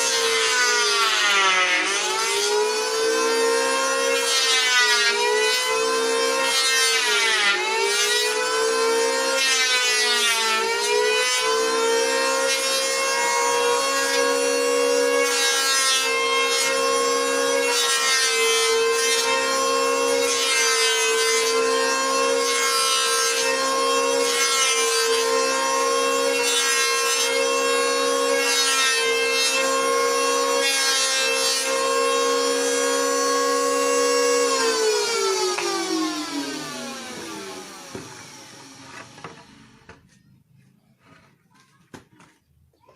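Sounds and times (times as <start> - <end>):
electric wood planer whining: 0.0 - 40.2
planer cutters rasping wood: 0.0 - 42.4.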